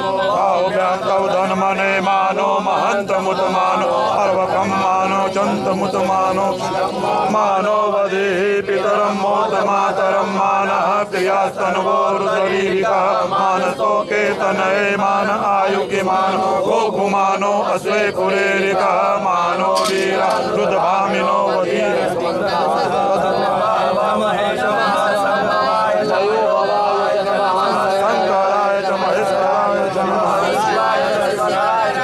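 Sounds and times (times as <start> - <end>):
men chanting together: 0.0 - 32.0.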